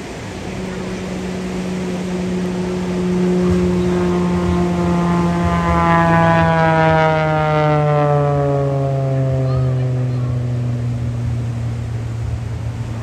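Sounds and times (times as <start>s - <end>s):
plane engine droning overhead: 0.0s - 13.0s.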